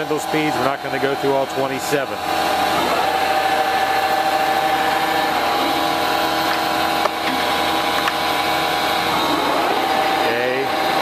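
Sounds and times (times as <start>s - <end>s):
lathe gear whine and hum: 0.0s - 11.0s.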